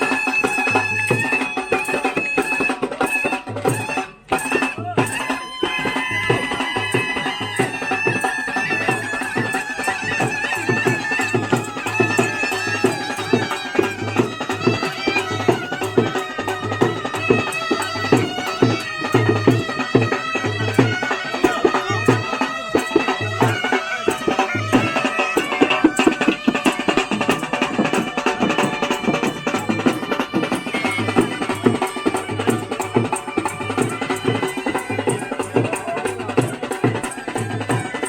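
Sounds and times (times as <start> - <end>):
drums beating fast rhythm: 0.0 - 38.0.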